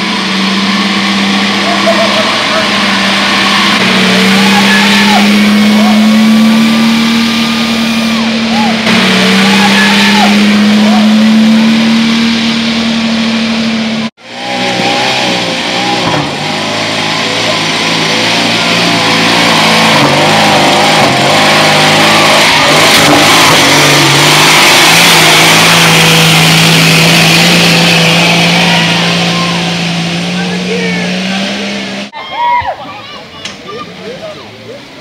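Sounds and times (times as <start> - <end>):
off-road engines revving under load: 0.0 - 32.2.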